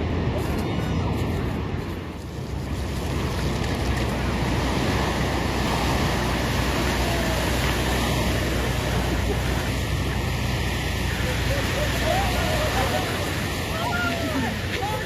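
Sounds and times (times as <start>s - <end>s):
low rumble: 0.0s - 14.9s
wind: 0.0s - 15.0s
rushing water: 2.1s - 15.0s.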